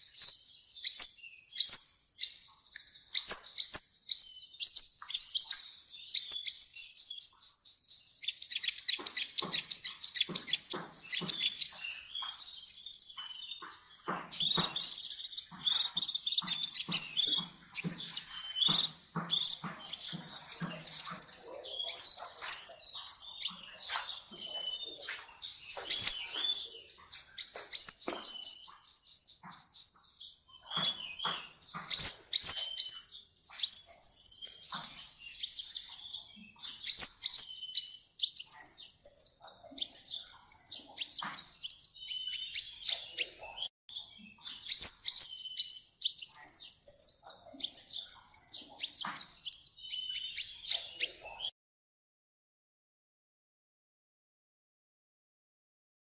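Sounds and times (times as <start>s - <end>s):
bird singing chirps and trills: 0.0s - 51.5s.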